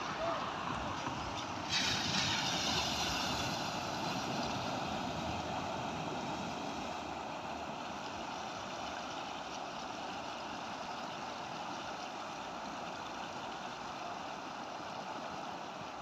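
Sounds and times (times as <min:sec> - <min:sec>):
stream rushing over road: 0:00.0 - 0:16.0.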